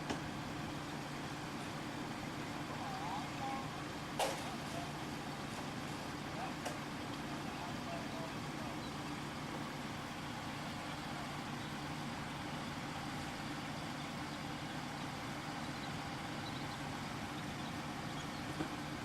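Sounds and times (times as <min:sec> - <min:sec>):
large engine idling: 0:00.0 - 0:19.0.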